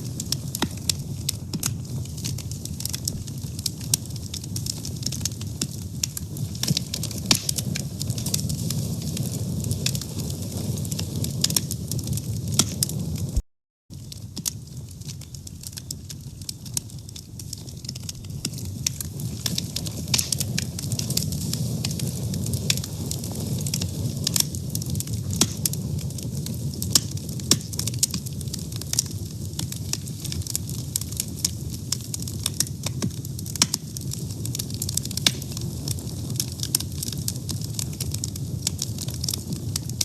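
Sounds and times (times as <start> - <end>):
fire crackling and popping: 0.0 - 40.0
wood fire rumbling: 0.0 - 40.0.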